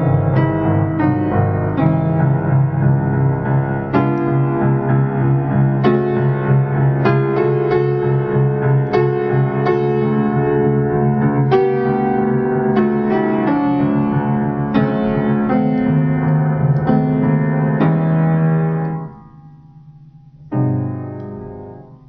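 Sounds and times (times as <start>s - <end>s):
piano notes ringing: 0.0s - 22.0s.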